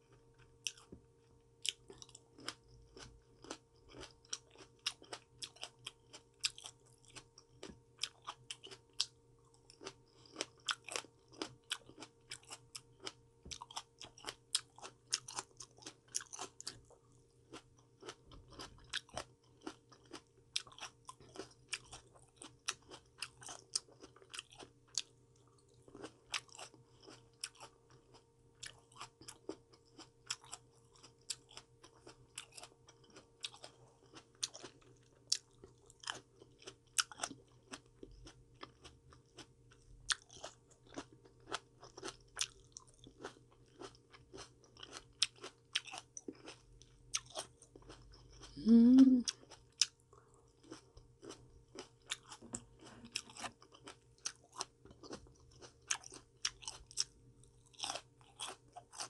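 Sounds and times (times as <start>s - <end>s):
faint steady hum: 0.0s - 59.0s
person chewing crisp food: 0.0s - 59.0s.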